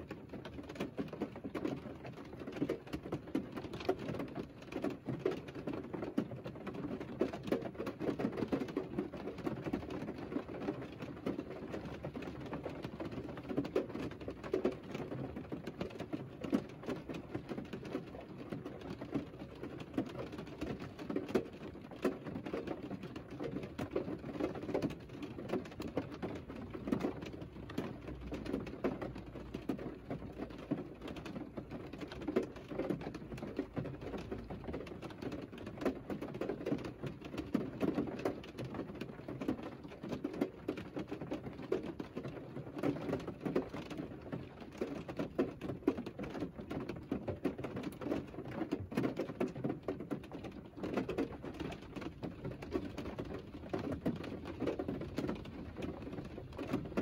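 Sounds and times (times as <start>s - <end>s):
rain pattering on car roof: 0.0s - 57.0s.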